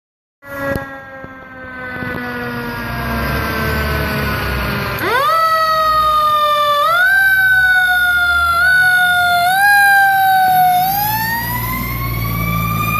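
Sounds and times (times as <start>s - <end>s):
fire engine siren: 0.4s - 12.9s
truck engine rumble: 0.6s - 12.9s.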